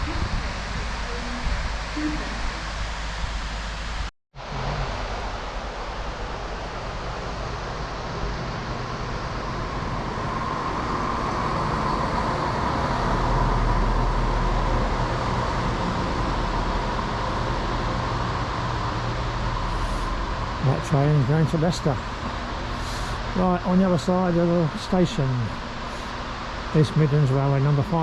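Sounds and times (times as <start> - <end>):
passenger train passing: 4.6 - 28.0.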